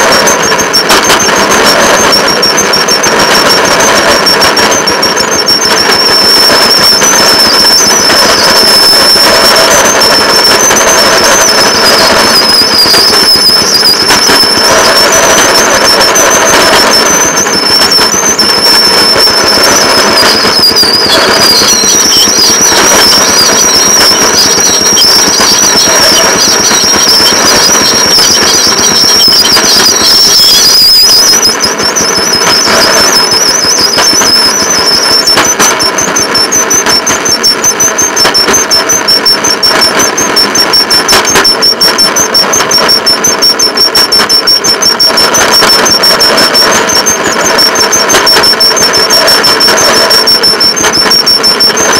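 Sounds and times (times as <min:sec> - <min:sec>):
high wavering squeal: 0:00.0 - 0:51.9.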